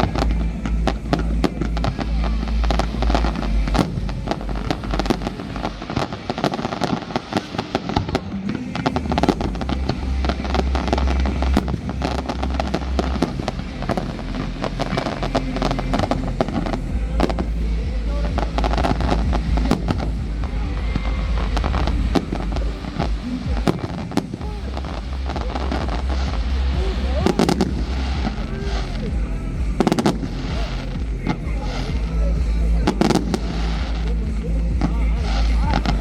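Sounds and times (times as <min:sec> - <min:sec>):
fireworks bangs and crackles: 0:00.0 - 0:36.0
low rumble: 0:00.0 - 0:36.0.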